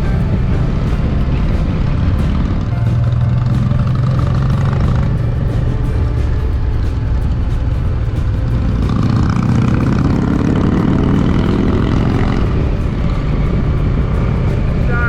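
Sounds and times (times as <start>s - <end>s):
motorcycle engine running: 0.0s - 15.0s
wind rushing on microphone: 0.0s - 15.0s.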